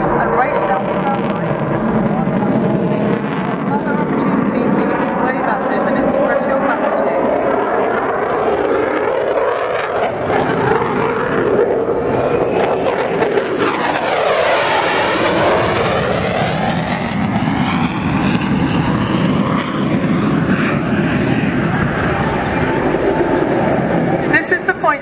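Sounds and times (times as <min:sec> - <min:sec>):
jet engines roaring past: 0:00.0 - 0:25.0.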